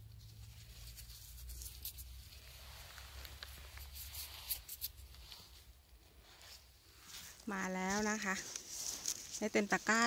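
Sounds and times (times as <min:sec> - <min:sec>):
faint rustling: 0:00.0 - 0:10.0.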